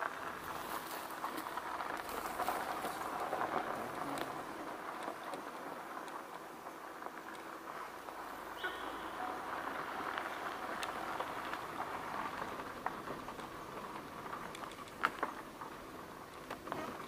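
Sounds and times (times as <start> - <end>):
dry grass and twigs rustling: 0.0 - 17.0.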